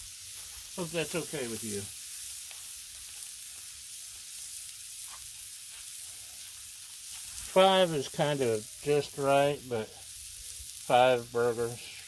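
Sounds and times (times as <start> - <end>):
faint crackles: 0.0 - 12.0
meat sizzling on a griddle: 0.0 - 12.0.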